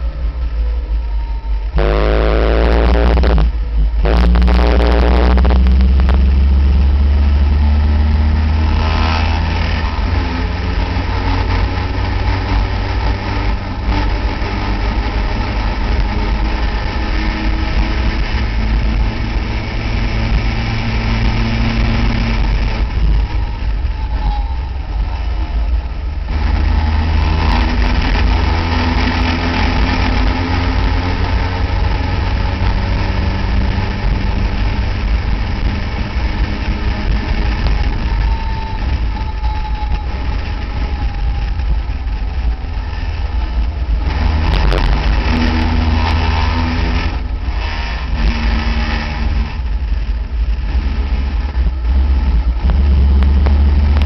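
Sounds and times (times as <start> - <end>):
wind noise on microphone: 0.0 - 54.0
race car engine revving: 1.2 - 54.0.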